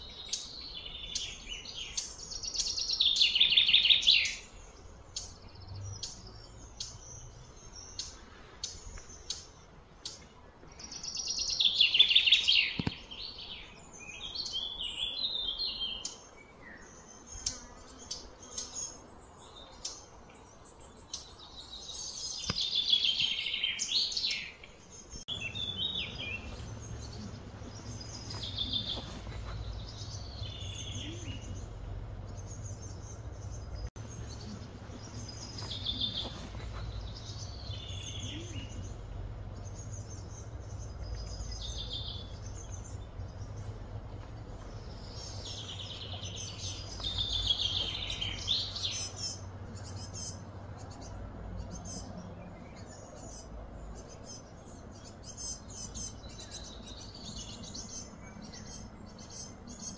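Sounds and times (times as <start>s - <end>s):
low background hum: 0.0s - 59.9s
wild birds chirping: 0.0s - 59.9s.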